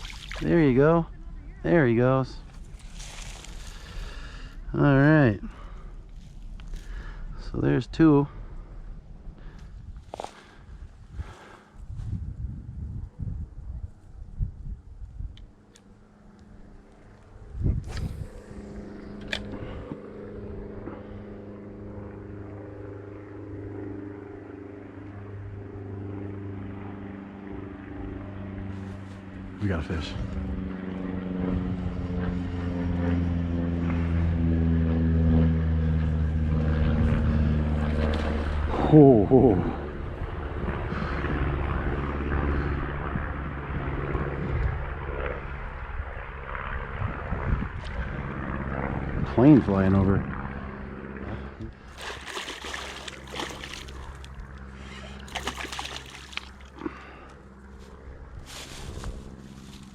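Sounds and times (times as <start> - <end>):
propeller airplane engine drone: 0.0 - 59.9.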